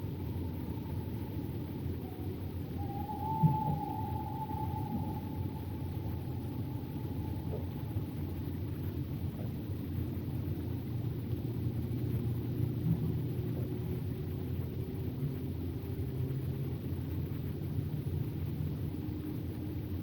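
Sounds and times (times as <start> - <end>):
low night ambience rumble: 0.0 - 20.0.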